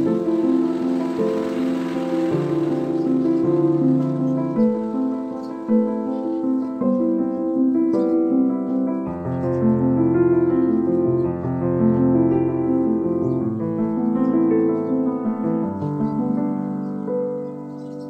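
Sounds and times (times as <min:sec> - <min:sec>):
piano-like melody: 0:00.0 - 0:18.0.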